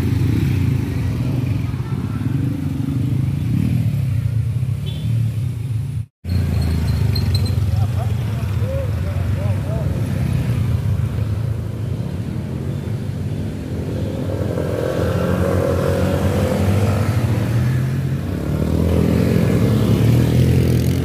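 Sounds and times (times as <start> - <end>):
motorcycle engine under heavy throttle: 0.0 - 21.0.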